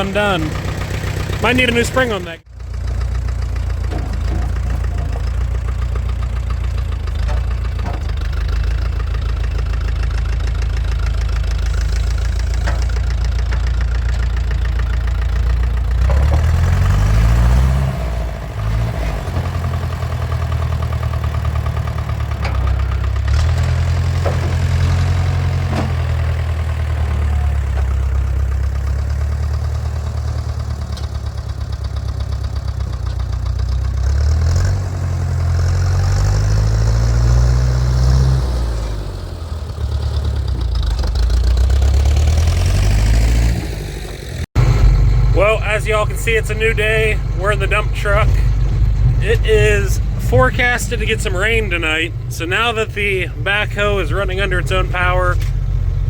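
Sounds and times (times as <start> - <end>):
diesel engine running and revving: 0.0 - 56.0.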